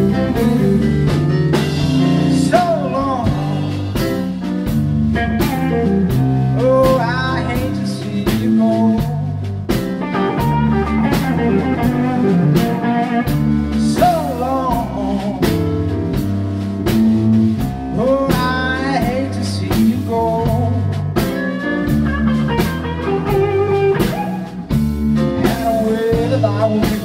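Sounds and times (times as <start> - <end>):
blues band playing: 0.0 - 27.0
guitar lead with bent notes: 0.0 - 27.0.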